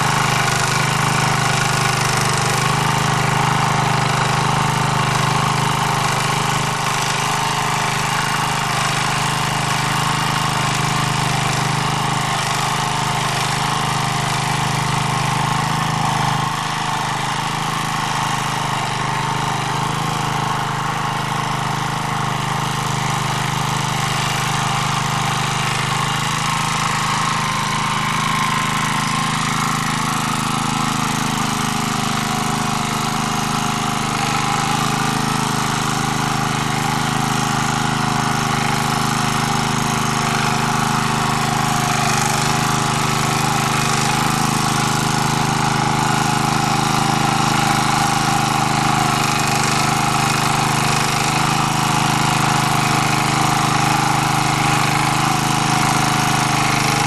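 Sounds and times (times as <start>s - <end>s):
rotary cutters tilling soil: 0.0s - 57.0s
tractor engine running: 0.0s - 57.0s.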